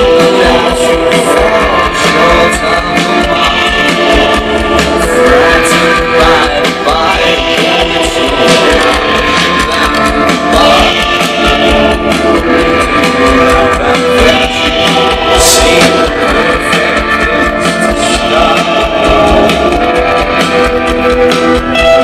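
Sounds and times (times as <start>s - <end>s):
drums: 0.0s - 22.0s
electric guitars: 0.0s - 22.0s
keyboard: 0.0s - 22.0s.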